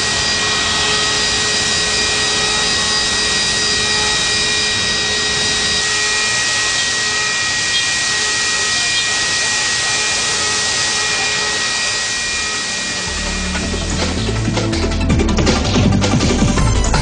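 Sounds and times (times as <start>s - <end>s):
milling machine hiss and whine: 0.0s - 16.2s.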